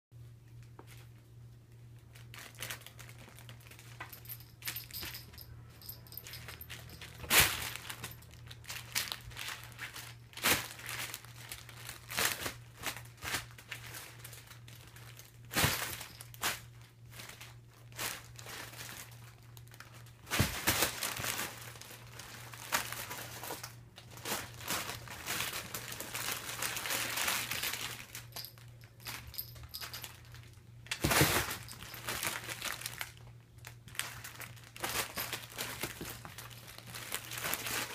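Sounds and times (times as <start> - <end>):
nylon tunnel crinkling: 0.5 - 4.7, 5.8 - 37.9.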